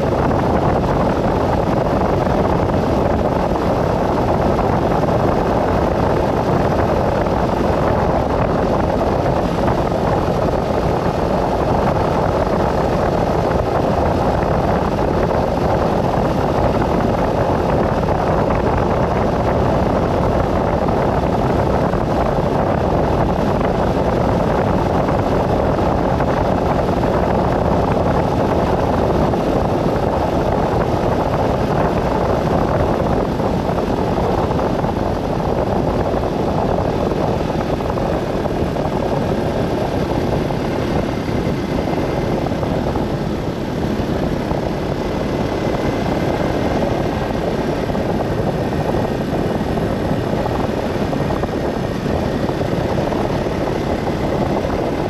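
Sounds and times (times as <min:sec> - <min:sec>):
vehicle road noise: 0:00.0 - 0:55.0.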